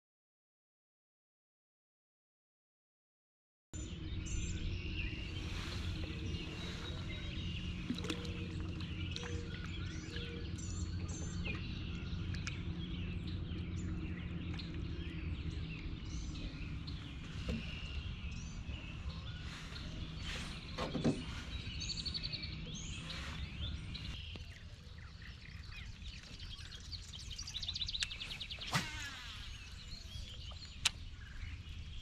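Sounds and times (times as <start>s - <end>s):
birds chirping and calling: 3.8s - 32.0s
steady low rumble: 3.8s - 32.0s.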